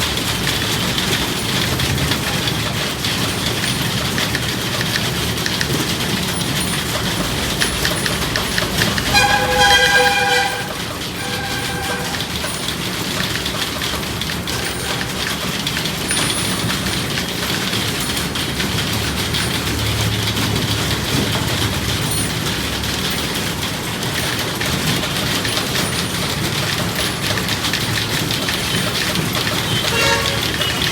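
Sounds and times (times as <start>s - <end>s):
typewriter typing fast: 0.0s - 30.9s.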